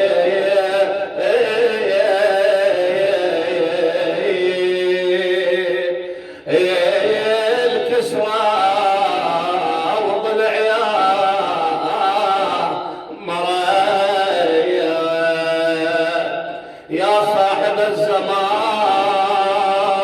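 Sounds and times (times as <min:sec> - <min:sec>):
man chanting a lament: 0:00.0 - 0:20.0.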